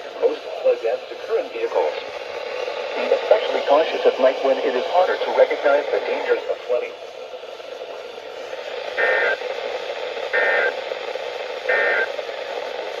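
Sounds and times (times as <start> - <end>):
radio receiver hiss: 0.0 - 7.0, 7.6 - 13.0.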